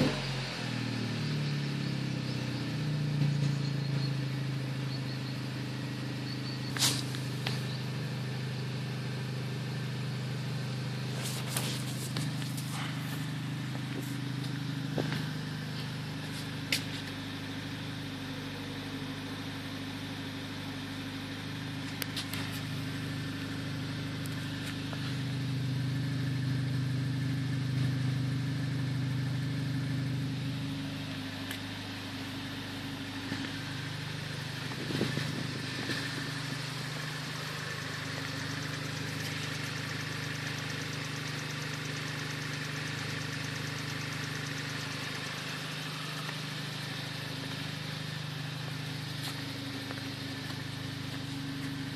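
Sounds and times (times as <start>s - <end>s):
car engine running: 0.0s - 51.9s.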